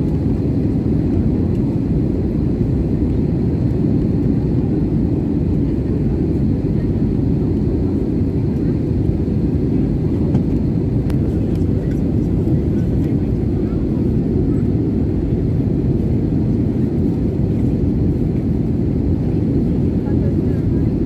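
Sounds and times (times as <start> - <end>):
jet airliner cabin noise: 0.0 - 21.0.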